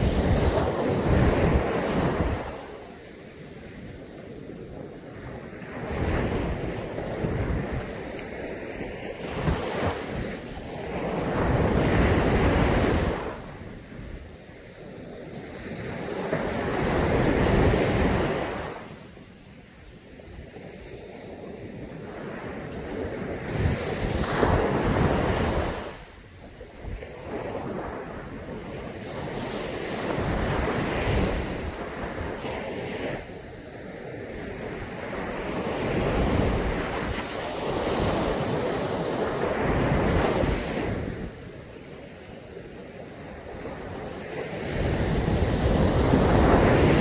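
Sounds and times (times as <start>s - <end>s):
wind buffeting microphone: 0.0s - 41.8s, 42.6s - 47.0s
sea waves breaking on beach: 0.0s - 47.0s.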